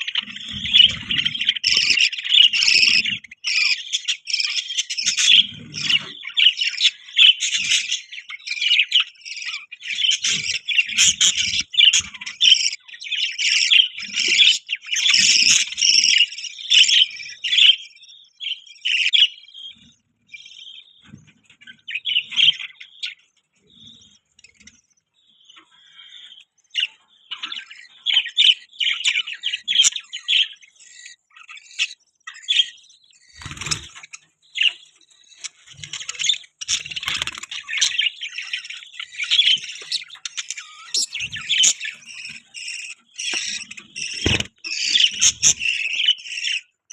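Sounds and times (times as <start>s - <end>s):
budgies chirping and chattering: 0.0s - 46.9s.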